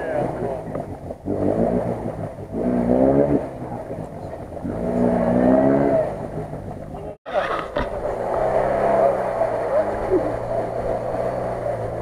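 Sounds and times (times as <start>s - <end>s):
car engine revving hard: 0.0s - 12.0s
vehicle pushing through water: 0.0s - 12.0s.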